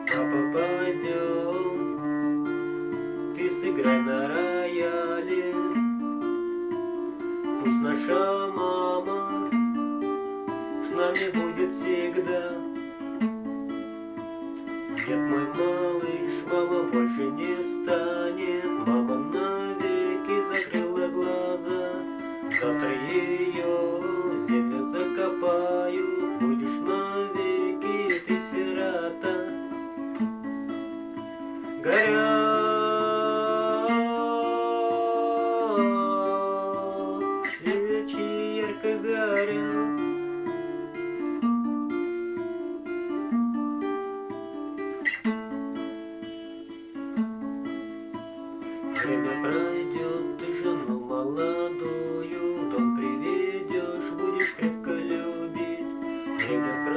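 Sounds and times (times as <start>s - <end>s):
acoustic guitar playing: 0.0s - 56.9s.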